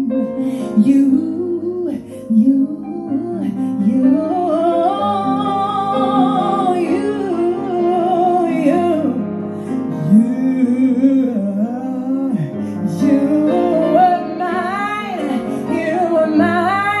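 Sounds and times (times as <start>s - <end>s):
woman singing: 0.0s - 9.3s, 9.9s - 17.0s
piano accompaniment: 0.0s - 17.0s.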